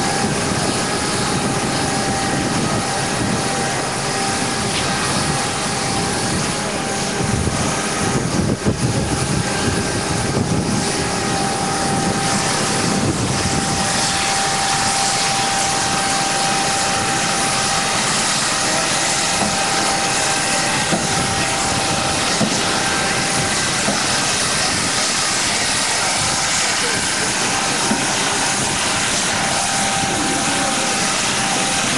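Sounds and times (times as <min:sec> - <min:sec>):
aircraft engine rush with whine: 0:00.0 - 0:31.9.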